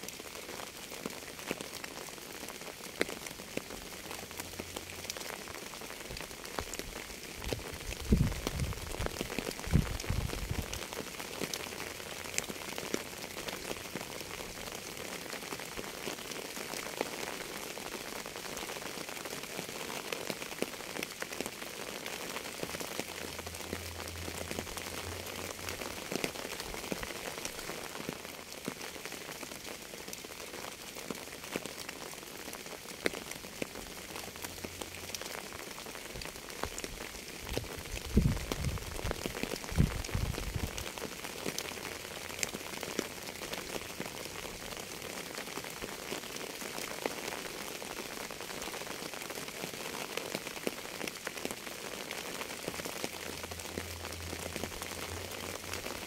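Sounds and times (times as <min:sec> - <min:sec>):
rain drops clicking on surface: 0:00.0 - 0:56.0.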